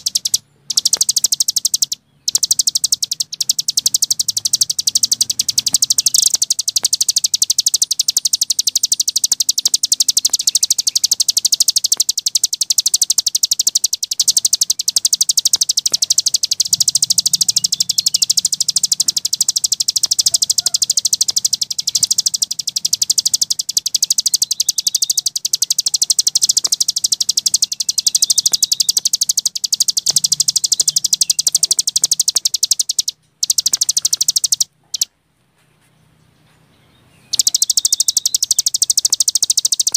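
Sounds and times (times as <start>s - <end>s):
bird singing rapid chattering notes: 0.0s - 35.1s, 36.8s - 39.9s.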